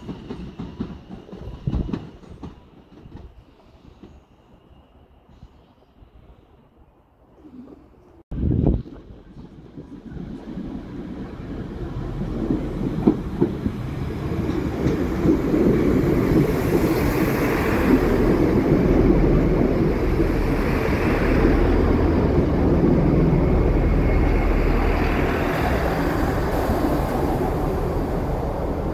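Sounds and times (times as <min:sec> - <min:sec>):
diesel train passing: 0:00.0 - 0:07.3, 0:09.0 - 0:28.9.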